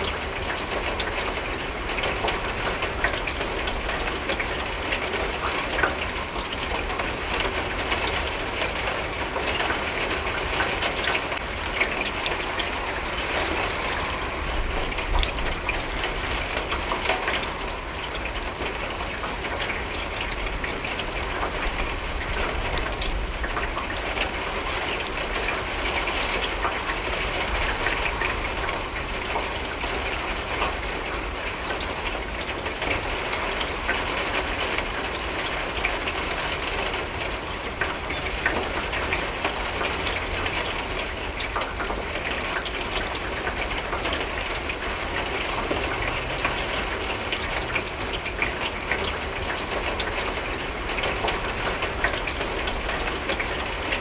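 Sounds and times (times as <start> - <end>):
rain on a window pane: 0.0 - 54.0.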